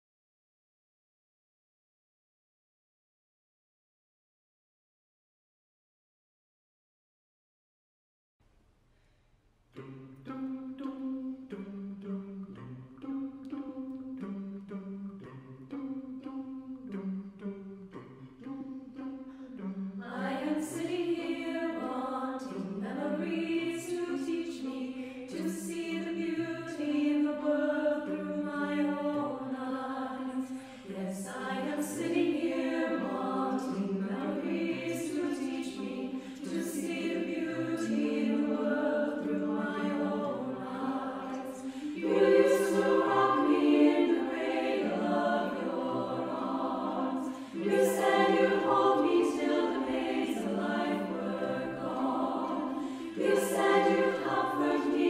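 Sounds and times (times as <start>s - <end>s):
mixed choir singing a cappella: 9.8s - 55.0s.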